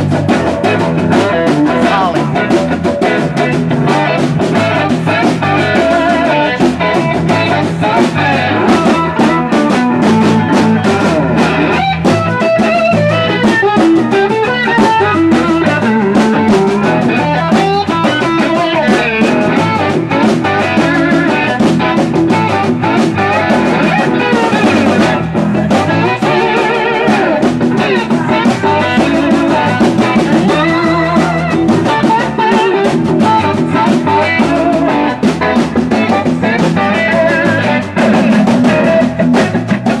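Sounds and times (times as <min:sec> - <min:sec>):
bass: 0:00.0 - 0:40.0
drum kit: 0:00.0 - 0:40.0
slide electric guitar: 0:00.0 - 0:40.0.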